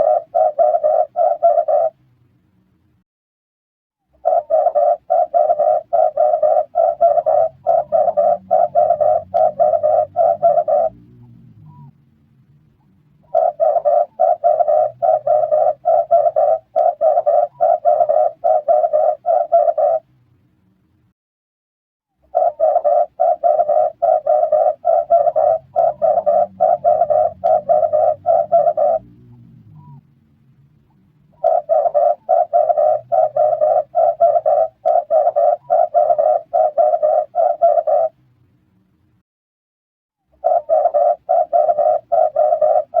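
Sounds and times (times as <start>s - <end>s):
turtle dove cooing: 0.0s - 2.0s, 4.1s - 12.0s, 12.8s - 20.1s, 22.2s - 30.0s, 31.3s - 38.2s, 40.3s - 43.0s.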